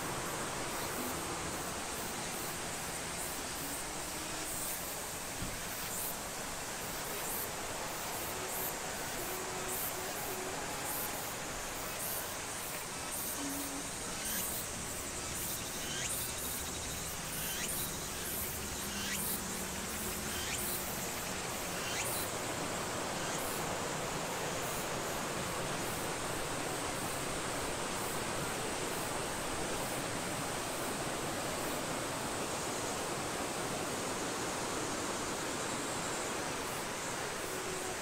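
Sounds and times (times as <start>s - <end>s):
insects chirping trill: 0.0s - 38.0s.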